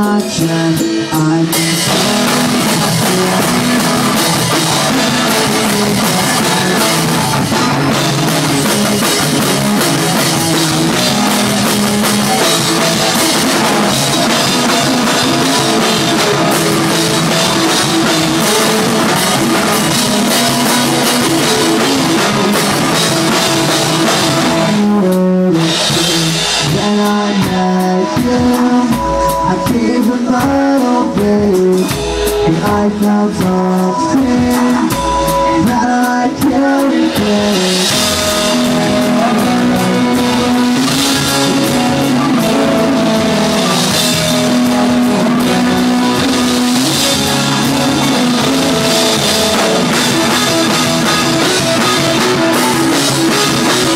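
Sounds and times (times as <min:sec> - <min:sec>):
rock music with drums and guitar: 0:00.0 - 0:53.9.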